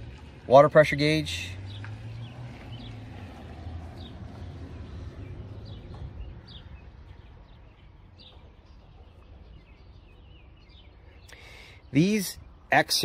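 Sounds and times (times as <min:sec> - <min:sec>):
bird chirps: 0:01.6 - 0:13.0.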